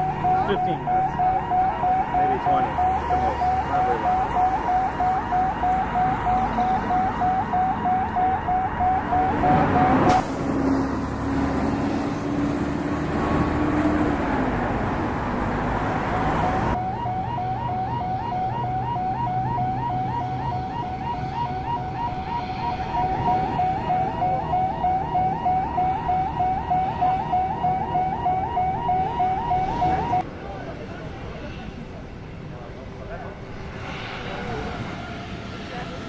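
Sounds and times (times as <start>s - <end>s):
rushing noise: 0.0s - 16.8s, 20.6s - 26.4s, 28.8s - 36.0s.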